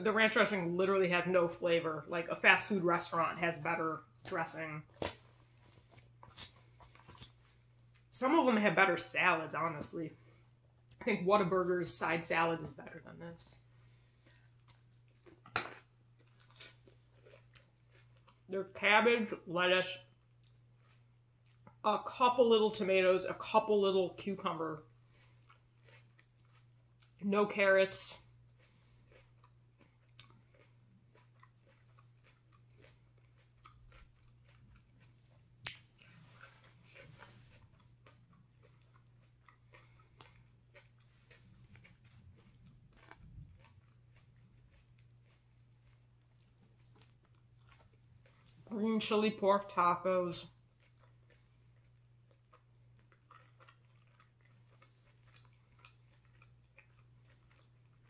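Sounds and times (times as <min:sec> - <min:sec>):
low steady hum: 0:00.0 - 0:58.0
person chewing softly: 0:02.3 - 0:11.2, 0:12.0 - 0:21.9, 0:22.8 - 0:58.0.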